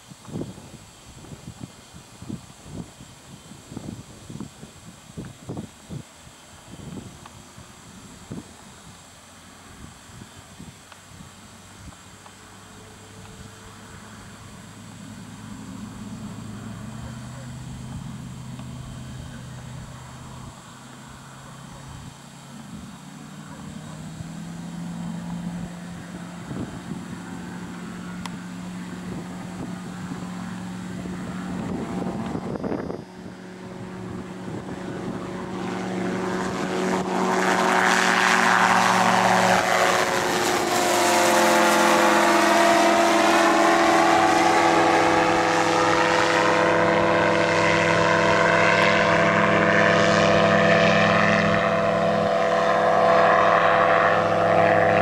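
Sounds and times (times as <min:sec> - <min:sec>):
gyroplane engine and propeller: 0:00.0 - 0:55.0.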